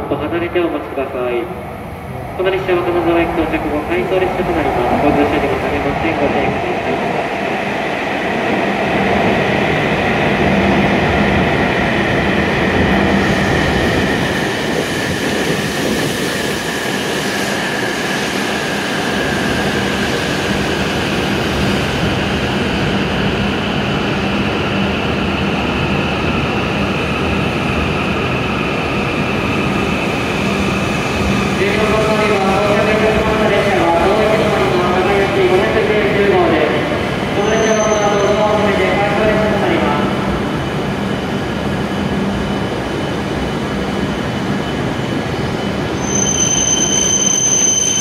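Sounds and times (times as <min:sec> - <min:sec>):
train pulling in and stopping: 0:00.0 - 0:48.0.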